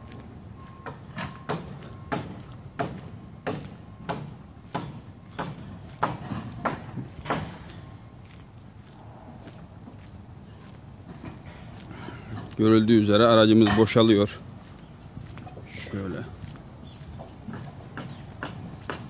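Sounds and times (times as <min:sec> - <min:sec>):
footsteps on concrete paving: 0:00.0 - 0:19.0.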